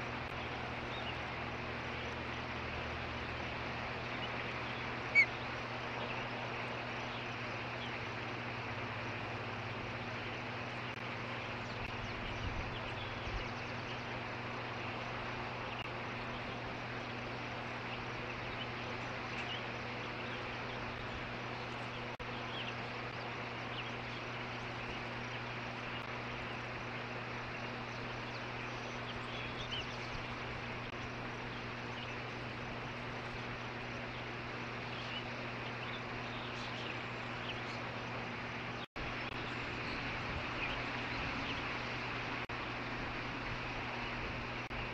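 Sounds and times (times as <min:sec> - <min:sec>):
constant low hum: 0:00.0 - 0:44.9.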